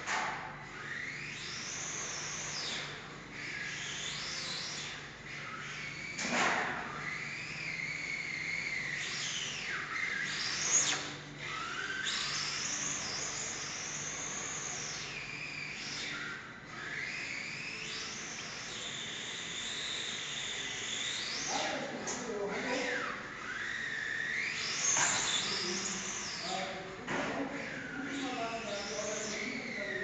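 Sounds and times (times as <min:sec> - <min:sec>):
electric toy car motor whine: 0:00.0 - 0:30.0.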